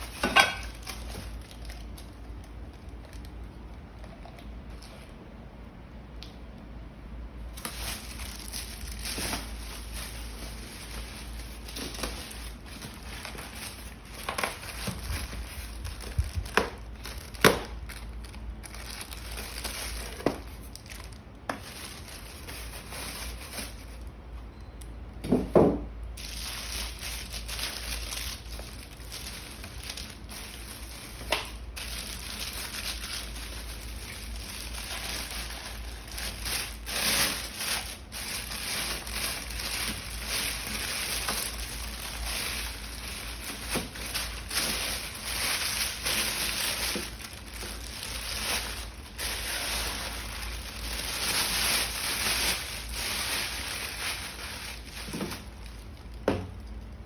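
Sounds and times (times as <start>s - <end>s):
crinkling and rustling handling: 0.0s - 5.6s, 7.4s - 57.0s
low steady hum: 0.0s - 57.0s.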